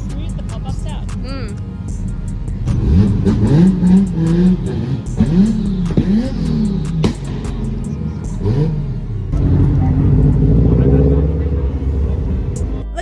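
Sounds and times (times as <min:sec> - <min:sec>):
car engine revving: 0:00.0 - 0:13.0
exhaust crackles: 0:00.0 - 0:13.0.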